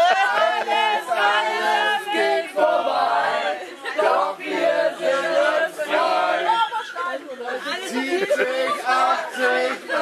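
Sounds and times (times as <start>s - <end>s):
group singing unaccompanied: 0.0s - 10.0s.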